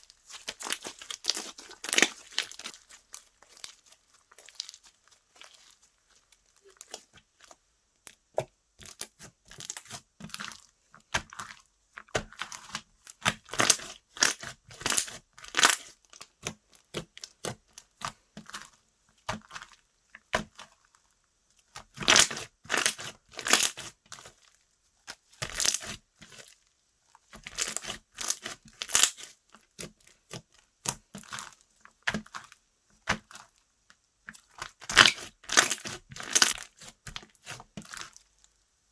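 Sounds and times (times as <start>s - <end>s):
hands squishing sticky slime: 0.0s - 20.9s, 21.6s - 26.5s, 27.2s - 33.6s, 34.2s - 38.3s.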